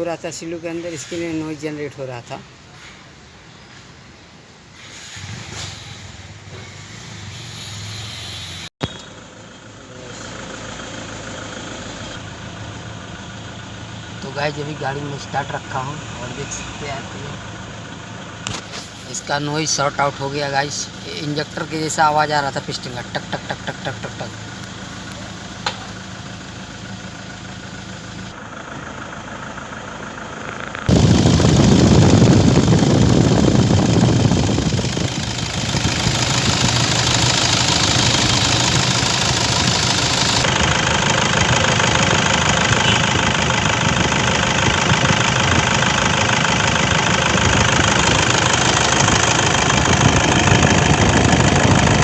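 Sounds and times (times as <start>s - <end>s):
diesel engine idling: 9.1s - 52.0s.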